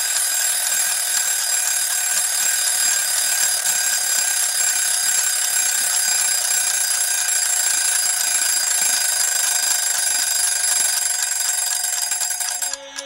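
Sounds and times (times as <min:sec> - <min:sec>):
alarm clock bell ringing: 0:00.0 - 0:13.0.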